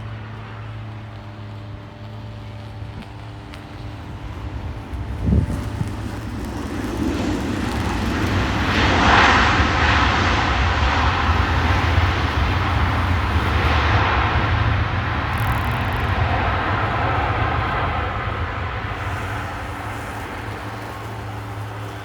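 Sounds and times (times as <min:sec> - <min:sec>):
jet engines roaring: 0:00.0 - 0:22.0
low rumble: 0:04.2 - 0:21.8.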